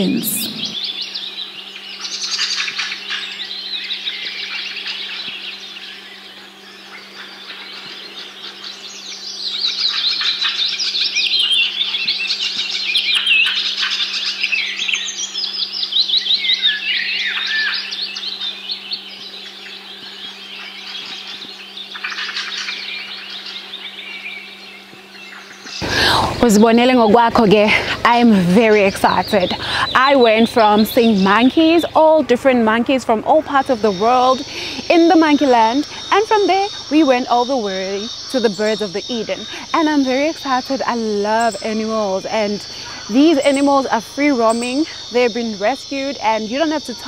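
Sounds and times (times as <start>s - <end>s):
birds chirping and twittering: 0.0s - 47.0s
steady low hum: 0.0s - 47.0s.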